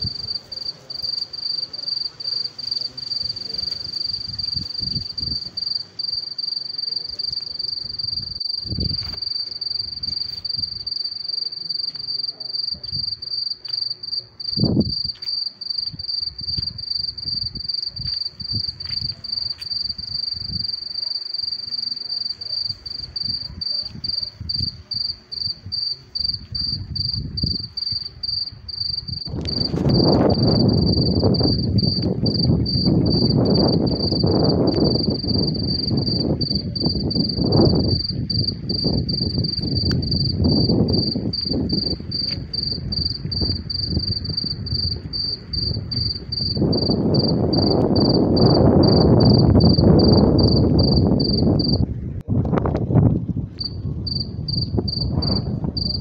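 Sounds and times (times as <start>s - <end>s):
wind rumbling on microphone: 0.0s - 6.2s, 6.9s - 11.1s, 12.1s - 21.6s, 22.2s - 56.0s
insect trilling: 0.0s - 51.8s, 53.6s - 56.0s.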